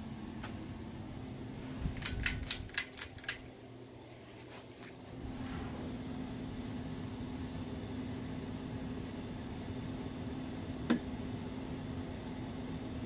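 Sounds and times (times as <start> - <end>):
ceiling fan humming: 0.0 - 13.0.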